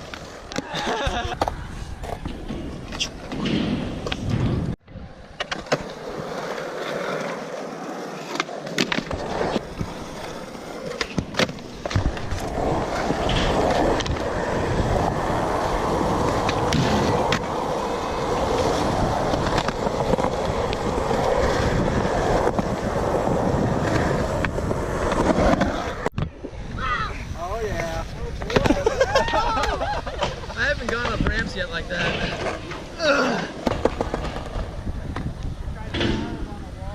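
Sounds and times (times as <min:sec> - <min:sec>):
skateboard wheels rolling on concrete: 0:00.0 - 0:36.9.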